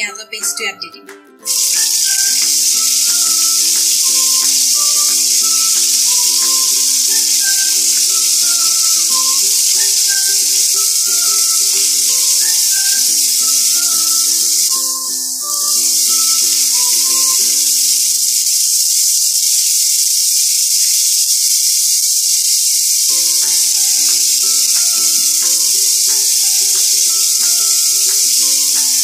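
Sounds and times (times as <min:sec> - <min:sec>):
background music melody: 0:00.0 - 0:19.3, 0:23.0 - 0:29.0
paste sizzling in hot oil: 0:01.5 - 0:29.0.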